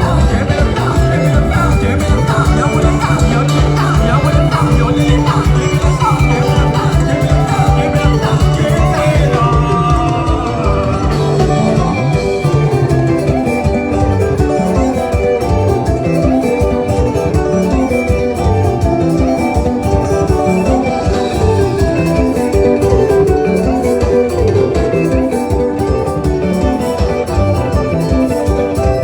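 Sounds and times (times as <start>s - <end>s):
band playing upbeat music: 0.0s - 29.0s.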